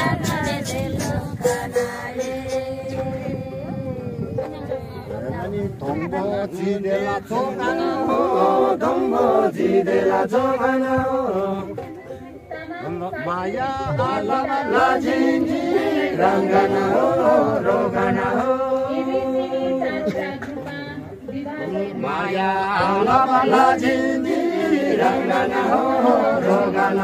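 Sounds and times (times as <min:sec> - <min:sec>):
group singing a chant: 0:00.0 - 0:04.4, 0:05.3 - 0:27.0.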